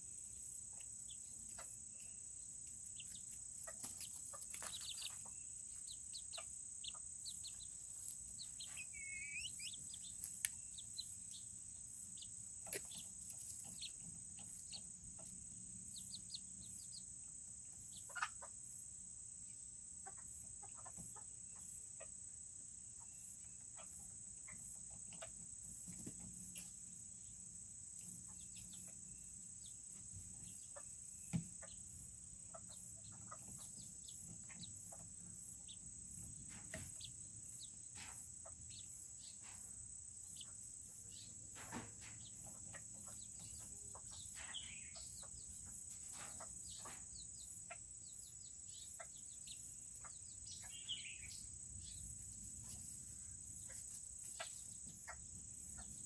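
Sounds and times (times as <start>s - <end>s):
chickens peeping: 0.0s - 18.9s, 19.6s - 56.0s.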